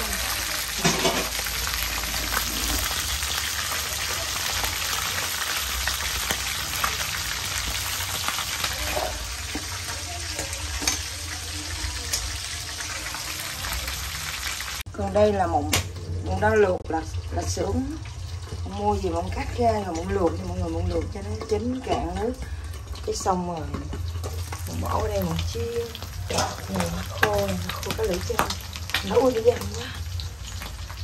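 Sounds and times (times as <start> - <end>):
fish frying in hot oil: 0.0 - 31.0.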